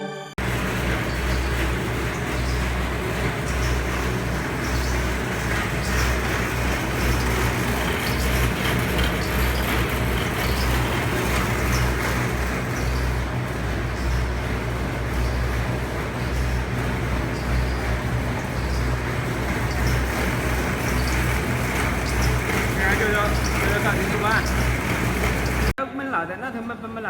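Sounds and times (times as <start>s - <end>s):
duct forming machine running: 0.4s - 25.8s.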